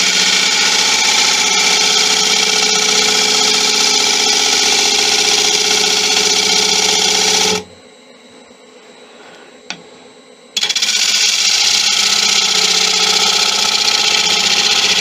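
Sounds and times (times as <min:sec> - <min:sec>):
lathe tool scraping wood: 0:00.0 - 0:07.7, 0:10.6 - 0:15.0.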